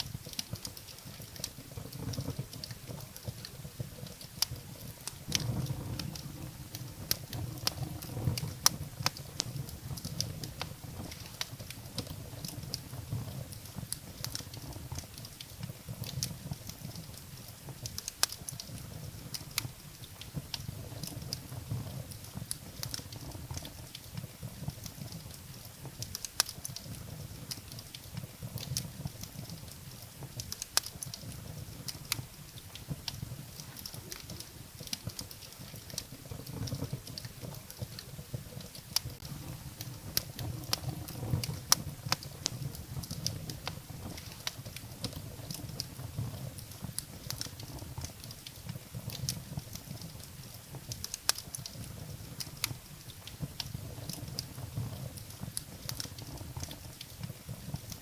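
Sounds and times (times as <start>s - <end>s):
firewood crackling and popping: 0.0s - 58.0s
low rumble of flames: 0.0s - 58.0s.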